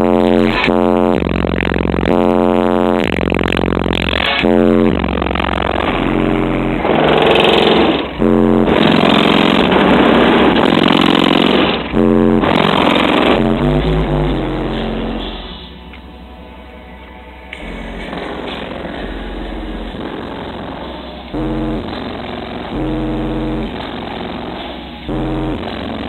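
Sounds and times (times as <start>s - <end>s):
loud bass music from subwoofers: 0.0s - 26.0s.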